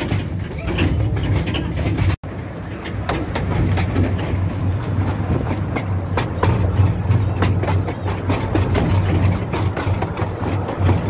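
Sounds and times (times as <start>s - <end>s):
steam train running: 0.0s - 11.0s.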